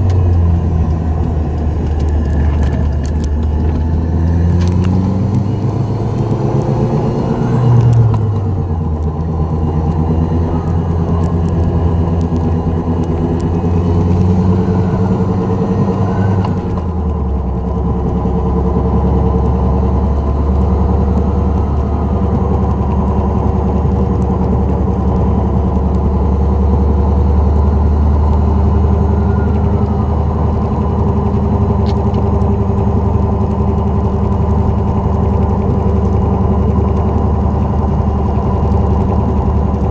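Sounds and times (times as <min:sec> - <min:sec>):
car engine running: 0:00.0 - 0:39.9
low drone: 0:00.0 - 0:39.9
road noise: 0:00.0 - 0:39.9.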